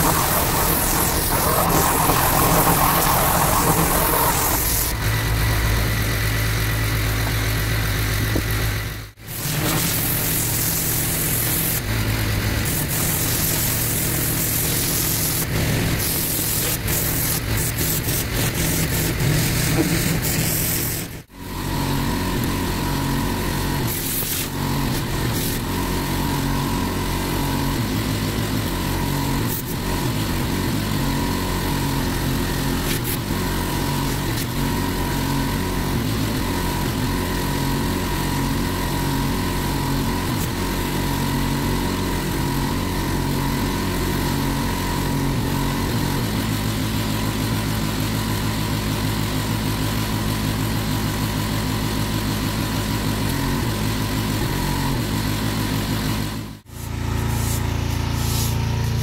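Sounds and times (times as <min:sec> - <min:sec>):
pressure washer engine running: 0:00.0 - 0:59.0.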